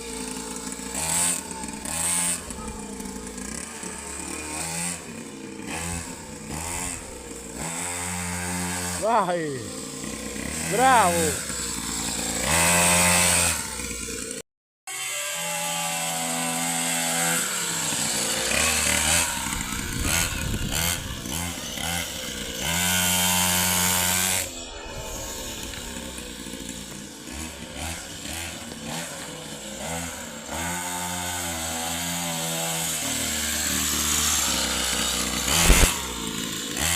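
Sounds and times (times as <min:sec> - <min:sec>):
motocross bike engine revving: 0:00.0 - 0:14.4, 0:15.0 - 0:36.9.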